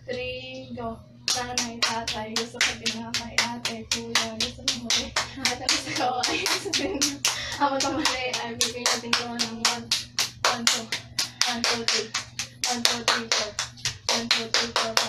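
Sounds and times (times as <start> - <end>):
hand-clapping game: 1.3 - 15.0.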